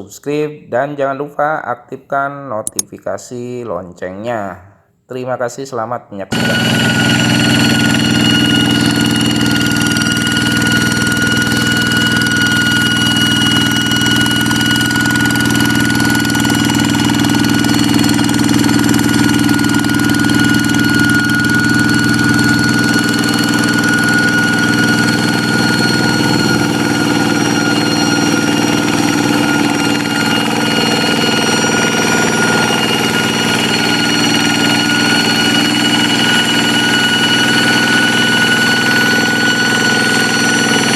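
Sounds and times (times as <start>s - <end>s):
high-pitched whine: 6.3s - 40.9s
diesel engine knocking: 6.4s - 40.9s.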